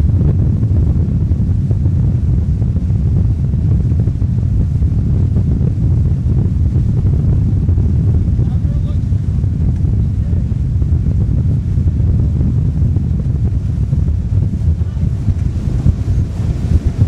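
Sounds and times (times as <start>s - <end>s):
boats running on water: 0.0s - 17.0s
wind buffeting microphone: 0.0s - 17.0s.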